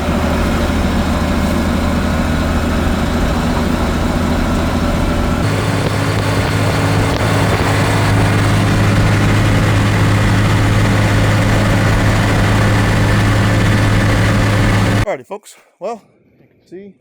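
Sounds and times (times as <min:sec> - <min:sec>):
heavy truck engine running: 0:00.0 - 0:15.1.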